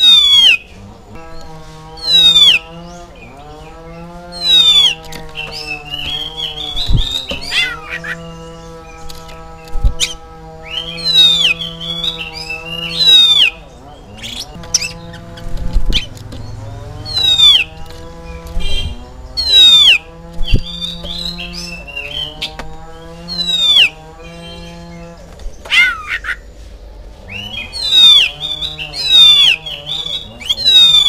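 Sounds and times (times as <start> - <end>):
bird whistling downward: 0.0 - 0.7, 2.0 - 2.9, 4.3 - 9.1, 9.7 - 16.2, 16.8 - 22.6, 23.2 - 25.0, 25.6 - 26.4, 27.3 - 31.0
bird chattering notes: 0.0 - 26.5, 27.3 - 31.0
steady low hum: 0.0 - 31.0.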